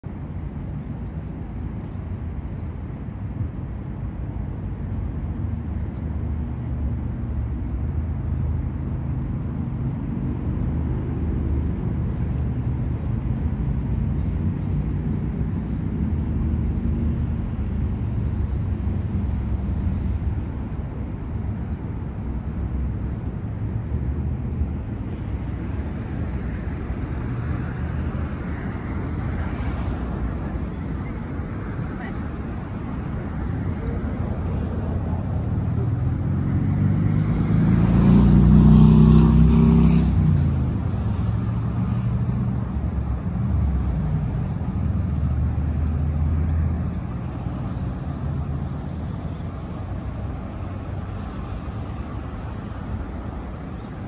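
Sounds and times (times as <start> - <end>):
low rumble of city traffic: 0.0 - 54.0.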